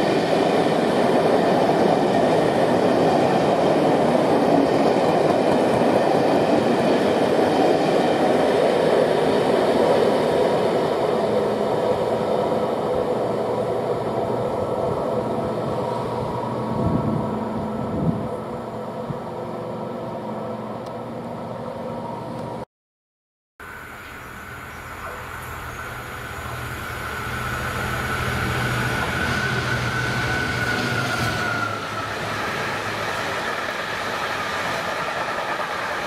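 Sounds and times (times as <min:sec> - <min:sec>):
train wheels rushing on rails: 0:00.0 - 0:18.5, 0:25.0 - 0:36.0.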